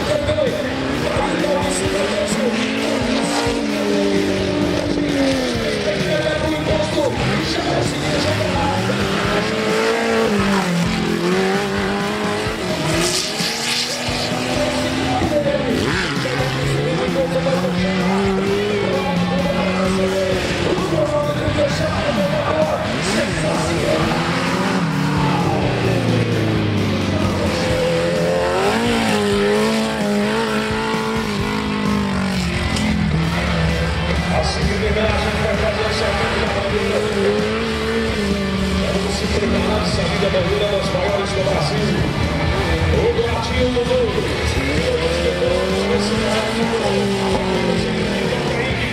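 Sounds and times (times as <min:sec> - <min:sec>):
engine revving hard: 0:00.0 - 0:48.9.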